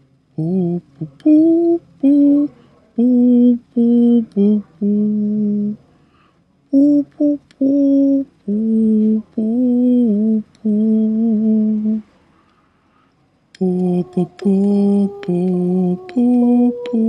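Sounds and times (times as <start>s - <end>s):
person humming: 0.4s - 5.8s, 6.7s - 12.0s, 13.6s - 17.0s.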